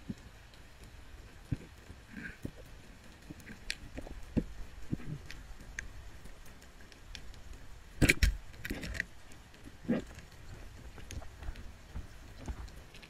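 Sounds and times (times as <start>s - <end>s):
underwater clicks and ticks: 0.0s - 13.0s.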